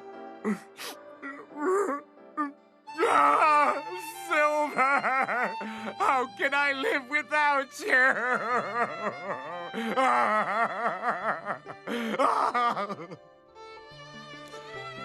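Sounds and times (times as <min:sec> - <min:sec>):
soft violin music: 0:00.0 - 0:15.0
man wailing and sobbing: 0:00.4 - 0:13.2.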